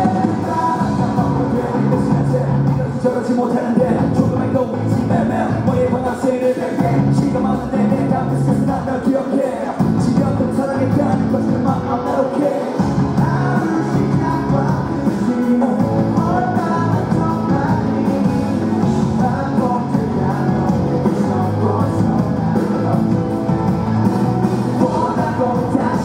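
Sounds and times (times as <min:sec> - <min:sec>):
live rock band: 0:00.0 - 0:26.0
person singing lead vocal: 0:00.0 - 0:26.0.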